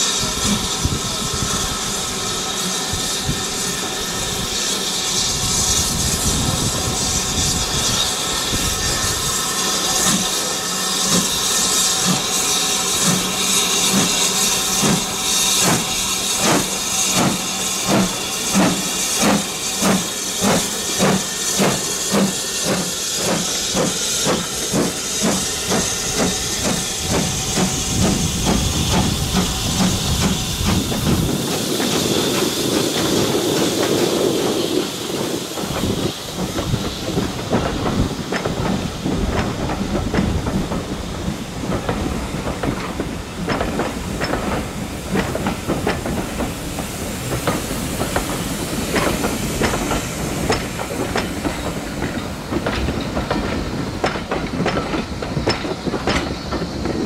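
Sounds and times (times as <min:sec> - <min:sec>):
steam hissing: 0:00.0 - 0:57.0
steam locomotive exhaust beats: 0:00.0 - 0:57.0
train wheels clicking over rail joints: 0:00.0 - 0:57.0.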